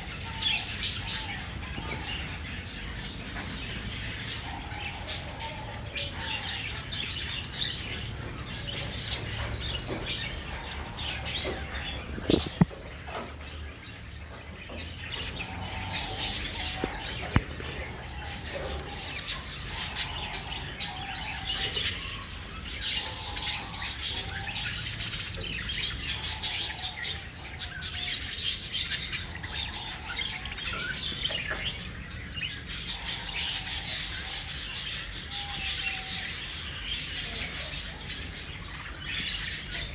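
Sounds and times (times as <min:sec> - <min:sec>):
parrots chirping and chattering: 0:00.0 - 0:39.9.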